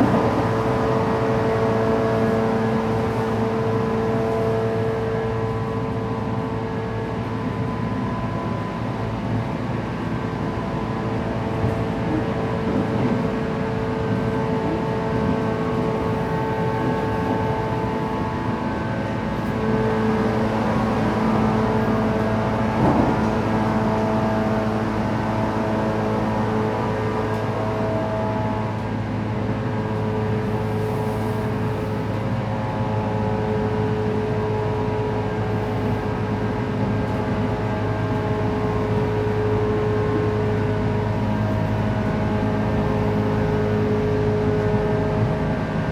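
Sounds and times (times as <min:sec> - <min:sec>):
electric train motor whine: 0:00.0 - 0:45.8
wheel-on-rail rumble: 0:00.0 - 0:45.9.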